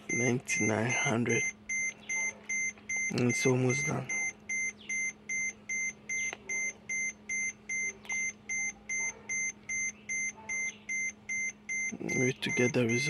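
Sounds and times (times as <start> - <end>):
short high-pitched beeps: 1.4 - 13.0.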